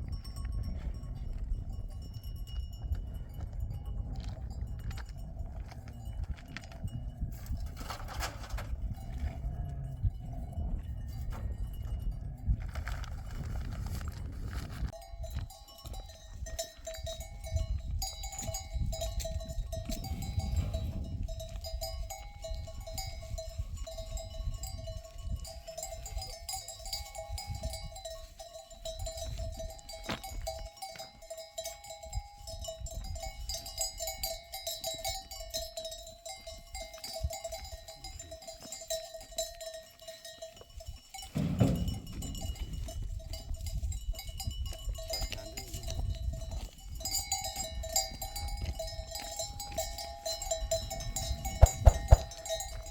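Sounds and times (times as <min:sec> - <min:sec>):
livestock bells clinking: 0:00.0 - 0:52.9.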